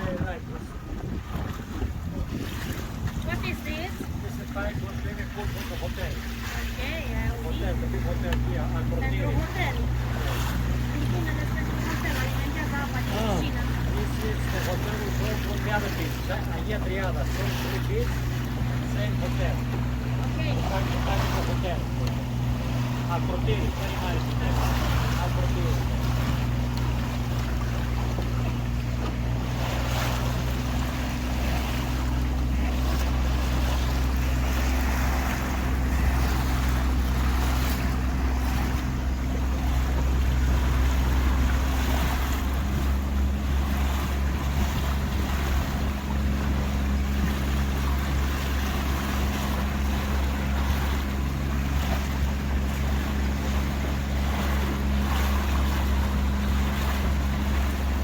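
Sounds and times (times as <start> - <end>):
wind on microphone: 0.0 - 7.4, 17.4 - 58.0
boat engine running: 0.0 - 58.0
water rushing against hull: 0.0 - 58.0.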